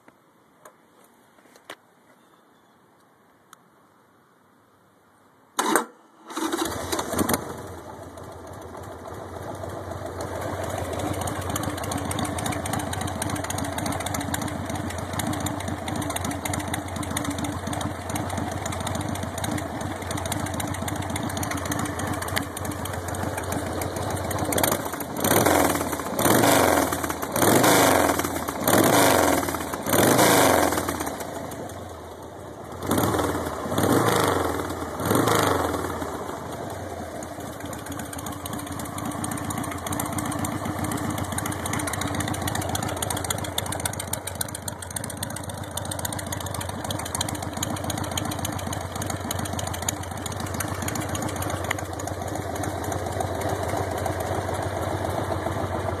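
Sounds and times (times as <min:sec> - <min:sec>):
motorcycle engine revving and idling: 0:06.4 - 0:56.0.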